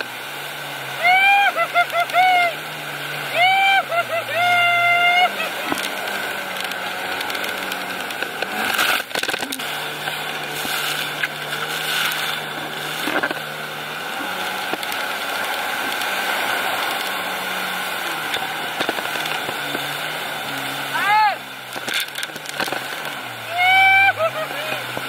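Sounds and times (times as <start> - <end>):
jet ski engine running: 0.0 - 25.0
rush of water and wind: 0.0 - 25.0.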